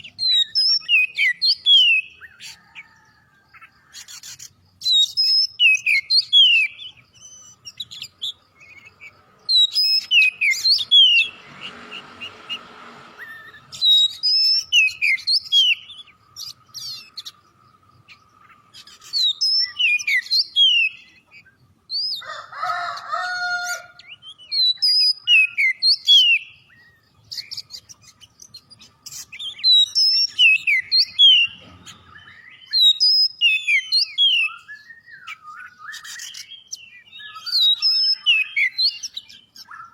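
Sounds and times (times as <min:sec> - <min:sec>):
songbird whistling: 0:00.0 - 0:03.0, 0:04.0 - 0:12.6, 0:13.2 - 0:17.4, 0:18.2 - 0:22.3, 0:24.0 - 0:39.9
harsh bird call: 0:00.0 - 0:39.9.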